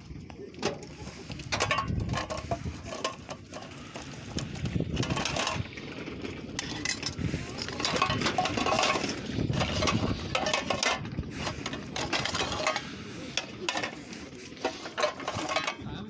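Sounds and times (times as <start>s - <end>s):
metal tins clinking and scraping: 0.6s - 5.8s, 6.5s - 15.9s.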